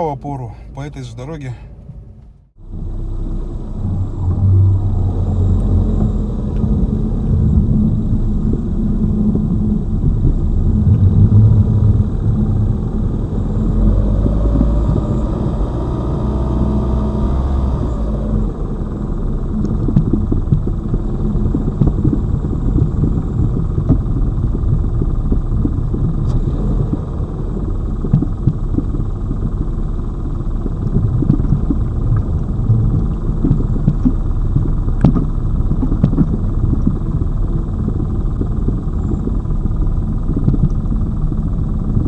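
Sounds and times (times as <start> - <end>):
suspension rumble: 0.0 - 42.0.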